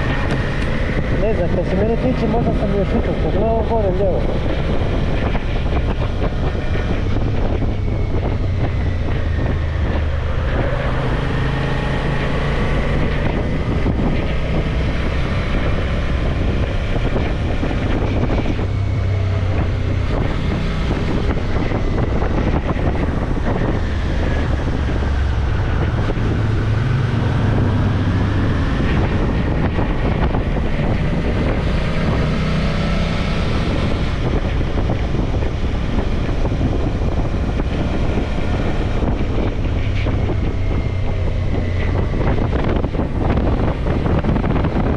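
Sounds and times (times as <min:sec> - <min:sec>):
motorcycle engine revving: 0:00.0 - 0:44.9
wind noise on microphone: 0:00.0 - 0:44.9.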